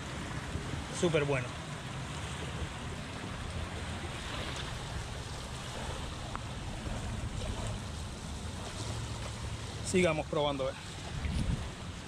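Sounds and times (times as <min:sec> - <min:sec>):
small waves lapping on shore: 0:00.0 - 0:12.0.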